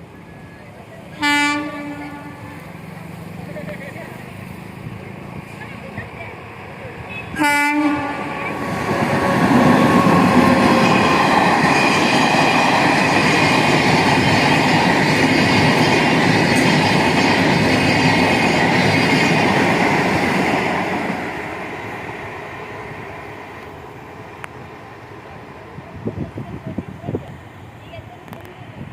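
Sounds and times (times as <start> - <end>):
train wheels running on rails: 0.0 - 28.9.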